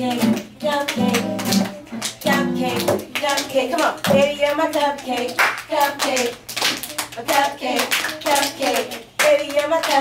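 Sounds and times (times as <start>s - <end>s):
hands clapping a beat: 0.0s - 10.0s.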